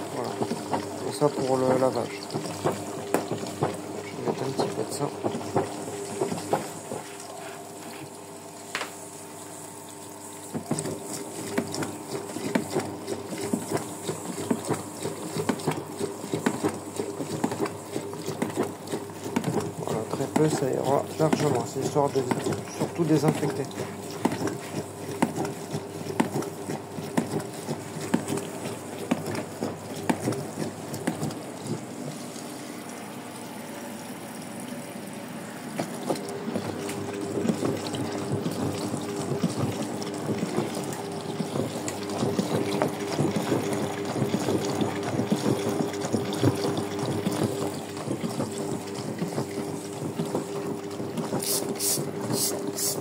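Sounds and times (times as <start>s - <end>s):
washing machine motor hum: 0.0s - 53.0s
water sloshing in washing machine: 0.0s - 53.0s.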